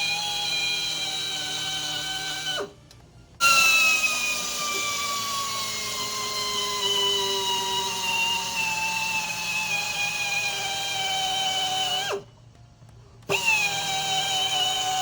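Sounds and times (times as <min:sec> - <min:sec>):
air tool whine: 0:00.0 - 0:02.8, 0:03.4 - 0:12.3, 0:13.3 - 0:15.0.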